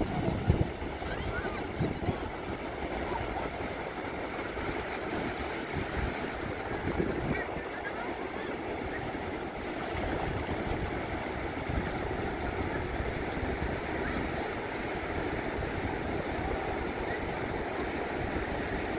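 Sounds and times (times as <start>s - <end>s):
small waves breaking on sand: 0.0s - 18.9s.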